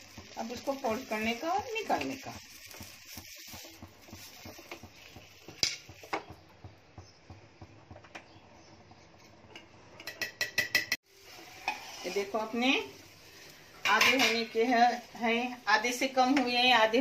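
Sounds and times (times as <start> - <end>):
faint pan sizzle: 0.0 - 17.0.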